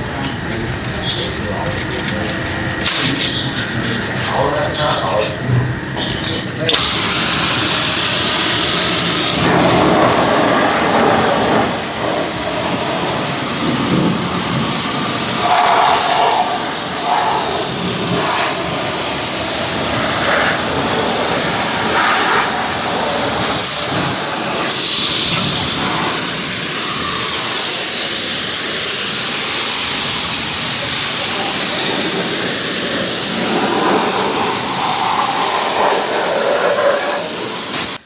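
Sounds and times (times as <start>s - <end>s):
pressure washer spraying: 0.0s - 38.0s.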